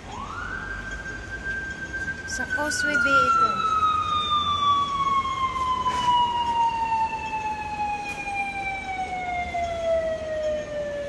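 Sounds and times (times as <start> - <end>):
faint street traffic: 0.0 - 11.0
siren falling in pitch: 0.0 - 11.0.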